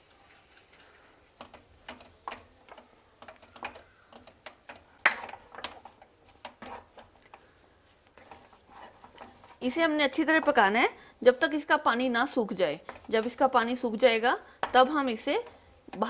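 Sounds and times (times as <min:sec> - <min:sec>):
wooden spatula scraping frying pan: 0:01.4 - 0:16.0.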